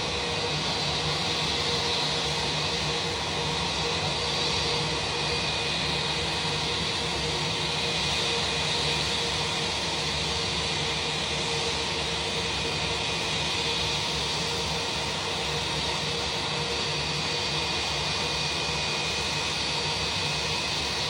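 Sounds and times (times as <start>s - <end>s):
jet engines idling: 0.0s - 21.0s.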